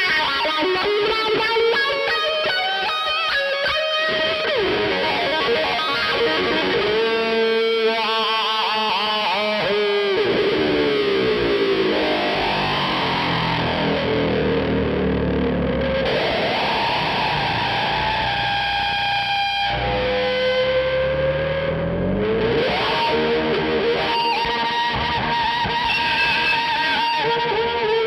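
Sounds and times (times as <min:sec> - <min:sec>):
distorted electric guitar lead: 0:00.0 - 0:28.0.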